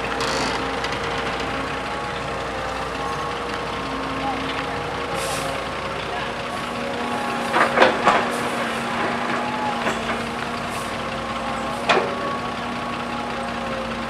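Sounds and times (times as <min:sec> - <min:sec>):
diesel machinery droning: 0:00.0 - 0:14.0.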